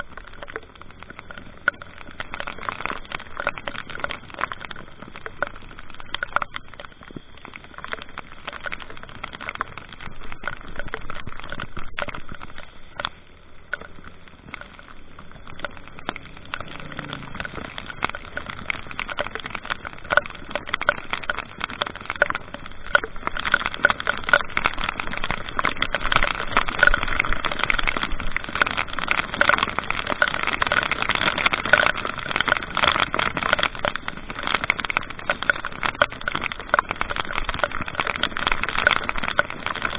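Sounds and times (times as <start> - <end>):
small ticks and crackles: 0.0 - 39.9
vehicle road and wind noise: 0.0 - 39.9.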